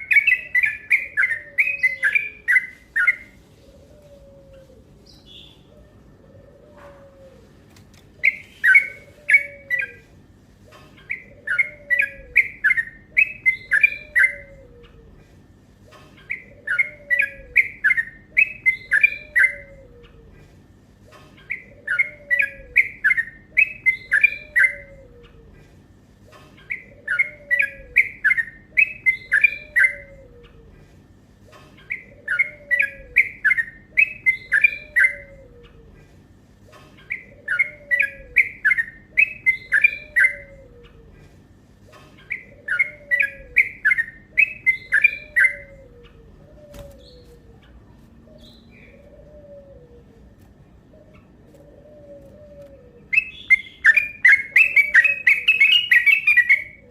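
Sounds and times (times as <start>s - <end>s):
bird chattering song: 0.0s - 4.2s, 4.8s - 6.2s, 8.2s - 15.2s, 15.8s - 20.4s, 21.0s - 25.5s, 26.2s - 30.8s, 31.4s - 36.0s, 36.6s - 56.9s.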